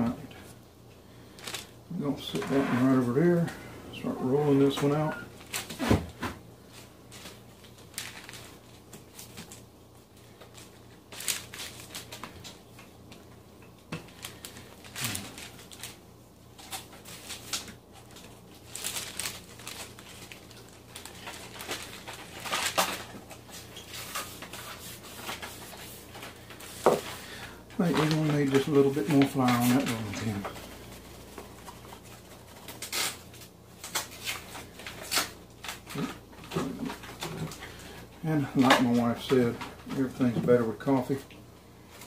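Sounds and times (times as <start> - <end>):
wax paper rustling and scraping: 0.4 - 13.2, 14.0 - 42.0.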